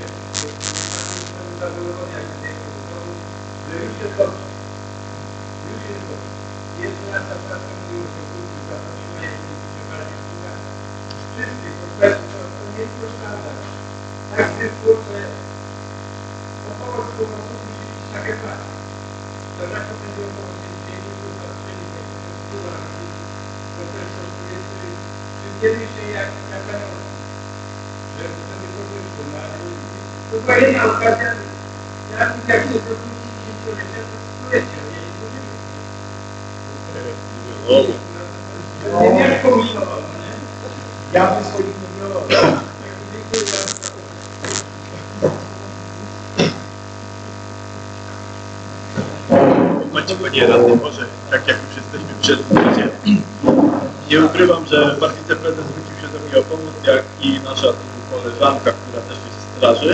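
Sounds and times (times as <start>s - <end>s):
faint indistinct speech: 0.0s - 4.6s, 5.6s - 6.2s, 6.8s - 15.4s, 16.6s - 18.8s, 19.5s - 27.2s, 28.1s - 35.6s, 36.6s - 46.7s, 48.9s - 59.9s
electrical mains hum: 0.0s - 59.9s.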